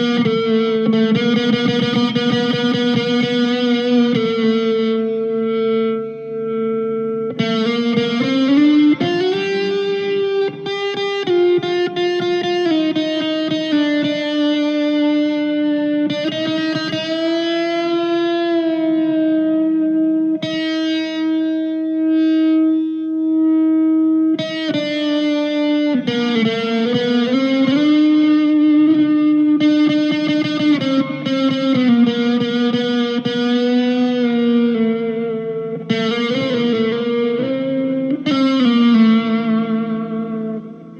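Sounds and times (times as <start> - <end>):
electric guitar lead line: 0.0 - 40.9.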